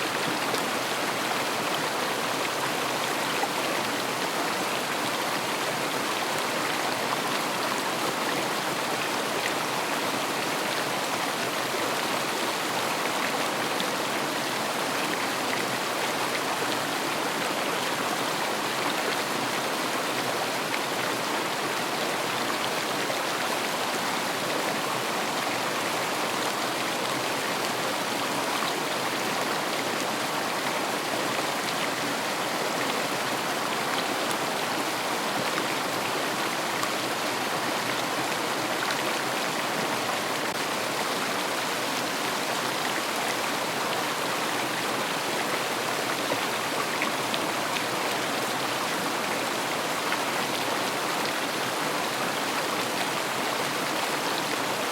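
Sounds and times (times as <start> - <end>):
river water rushing over stones: 0.0 - 54.9.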